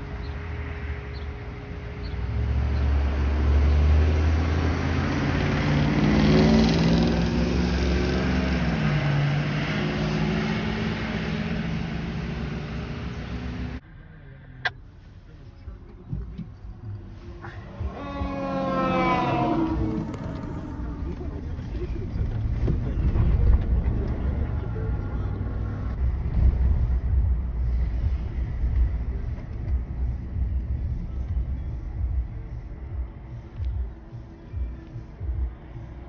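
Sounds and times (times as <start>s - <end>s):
fire truck driving past: 0.0s - 15.2s, 16.8s - 31.8s.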